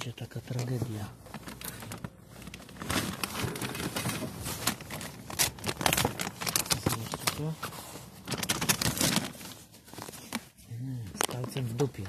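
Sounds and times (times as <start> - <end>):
bag rustling and crinkling: 0.5 - 10.6.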